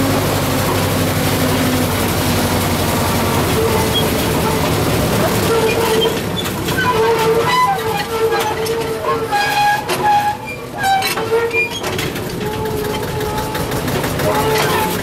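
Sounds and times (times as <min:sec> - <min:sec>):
locomotive engine drone: 0:00.0 - 0:15.0
wheels squealing on rails: 0:00.0 - 0:15.0.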